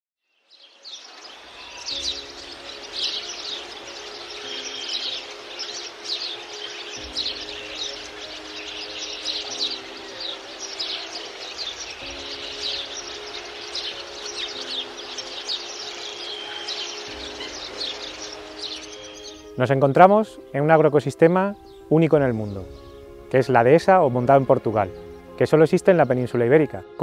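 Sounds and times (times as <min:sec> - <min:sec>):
small birds chirping: 0:00.4 - 0:26.6
soft sustained music chords: 0:00.5 - 0:27.0.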